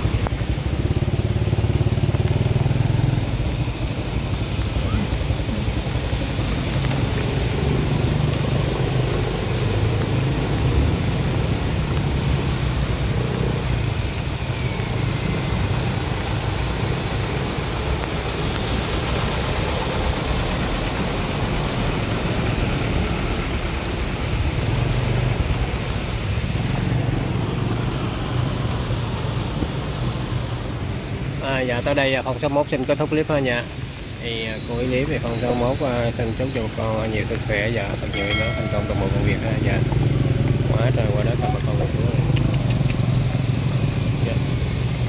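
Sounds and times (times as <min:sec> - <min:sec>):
motorbike engines running: 0:00.0 - 0:45.0
wheels going through water: 0:00.0 - 0:45.0.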